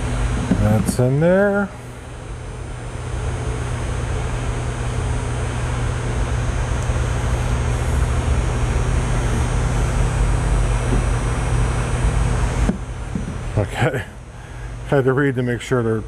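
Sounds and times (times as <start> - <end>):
blowing machine with low hum: 0.0 - 16.0.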